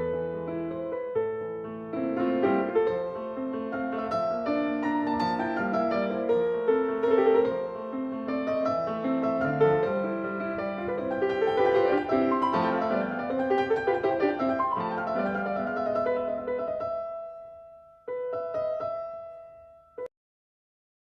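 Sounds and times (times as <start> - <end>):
piano music: 0.0 - 20.1.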